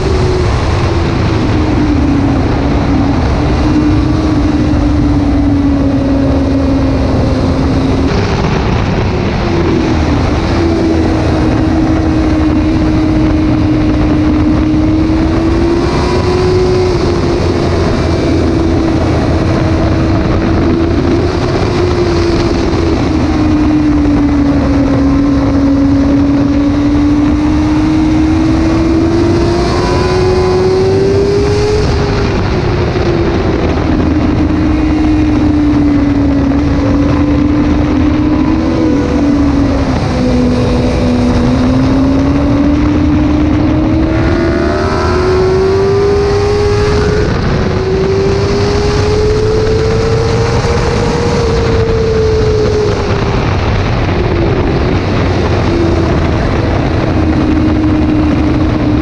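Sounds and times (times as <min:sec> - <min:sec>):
heavy wind noise: 0:00.0 - 0:59.0
motorcycle engine at high revs: 0:00.0 - 0:59.0.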